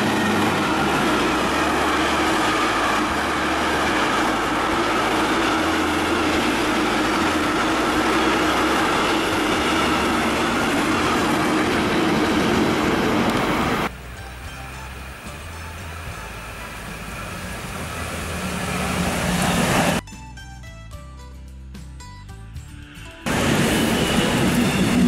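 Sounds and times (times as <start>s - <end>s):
train wheels running on rails: 0.0s - 20.0s, 22.8s - 25.0s.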